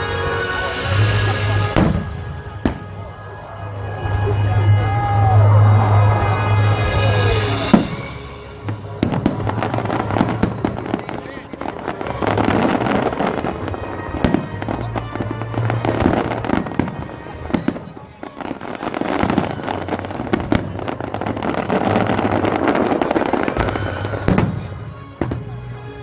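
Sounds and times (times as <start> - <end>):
fireworks bursting with sharp bangs: 0.7 - 3.3, 6.2 - 25.7.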